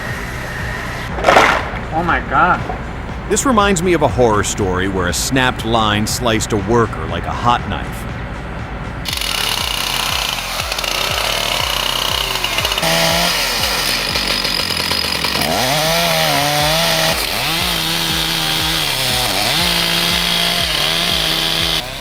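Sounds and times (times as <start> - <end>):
chainsaw revving: 0.0 - 5.5, 9.0 - 22.0.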